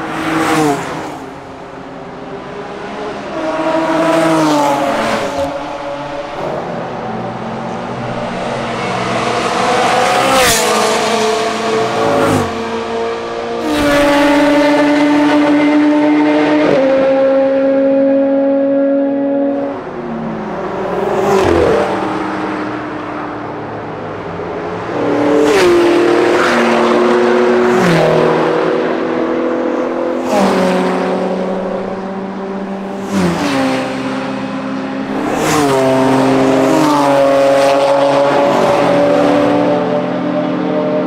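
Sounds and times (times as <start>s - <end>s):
race car engines accelerating: 0.0s - 41.0s.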